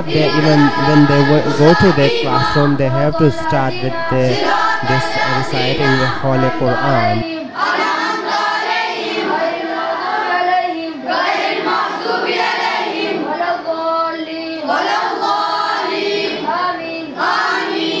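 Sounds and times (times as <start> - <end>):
children chanting recitation: 0.0 - 18.0.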